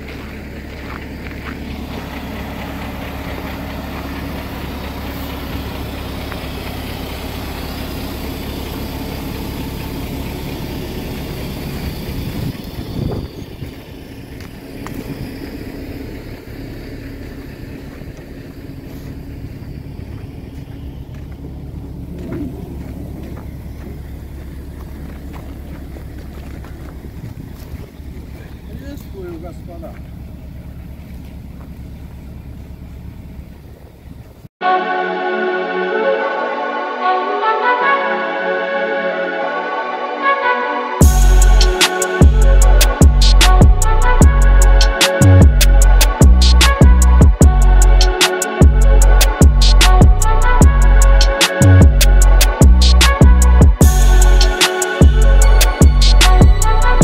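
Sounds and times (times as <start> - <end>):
truck diesel engine running: 0.0 - 34.5, 41.0 - 57.0.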